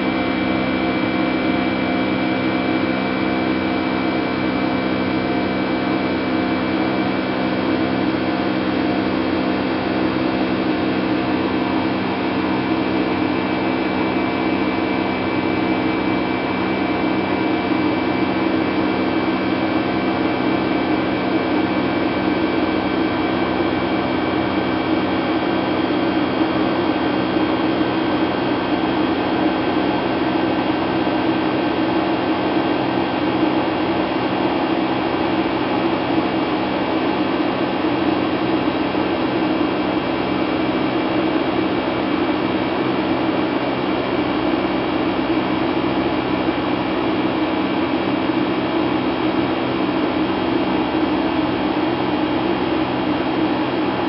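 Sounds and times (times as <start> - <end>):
jet engine drone: 0.0 - 54.0.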